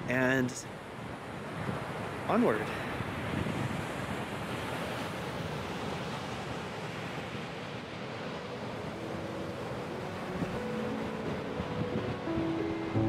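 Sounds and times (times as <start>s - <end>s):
wind buffeting microphone: 1.0s - 13.0s.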